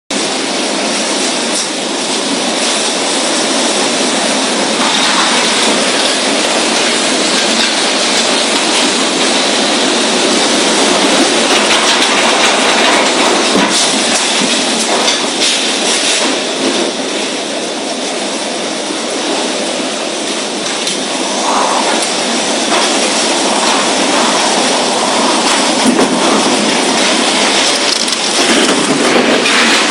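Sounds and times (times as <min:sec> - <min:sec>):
heavy rain: 0:00.1 - 0:29.9
wind rushing: 0:00.2 - 0:29.9.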